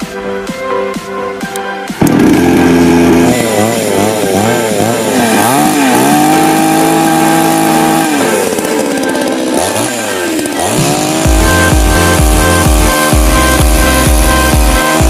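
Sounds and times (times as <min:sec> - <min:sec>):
chainsaw engine revving: 0:02.0 - 0:15.0.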